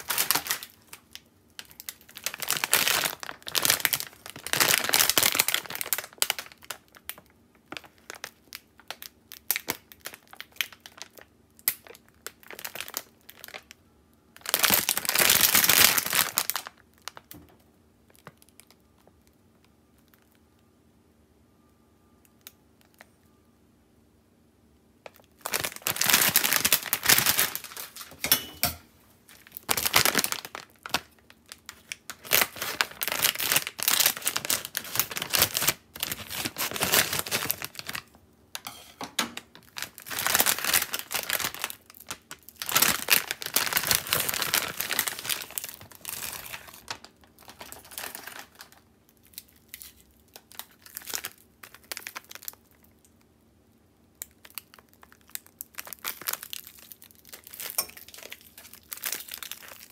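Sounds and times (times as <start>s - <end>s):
plastic packaging crinkling: 0.0s - 20.4s, 25.0s - 53.1s, 54.2s - 59.9s.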